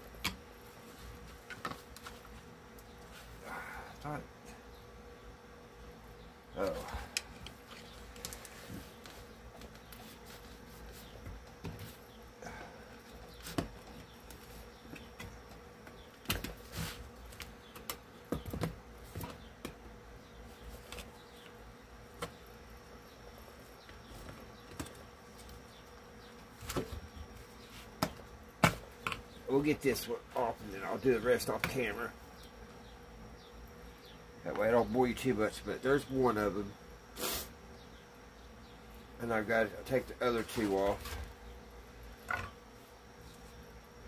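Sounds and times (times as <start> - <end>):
faint buzzing hum: 0.0 - 44.0.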